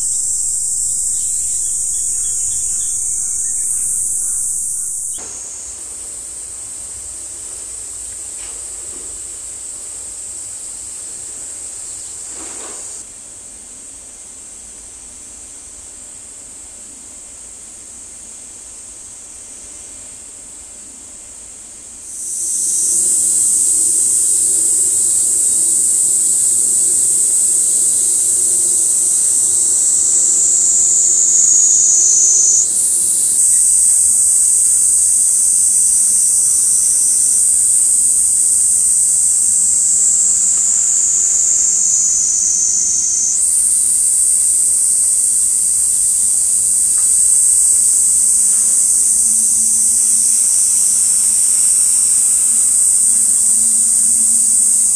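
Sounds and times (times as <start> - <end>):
cicadas buzzing: 0.0 - 13.0, 22.0 - 54.9.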